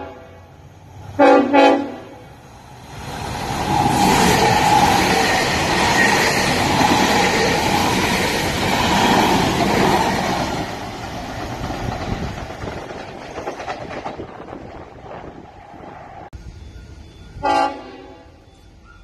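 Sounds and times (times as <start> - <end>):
train wheels on rail: 0.0 - 19.0
train whine: 0.0 - 19.0.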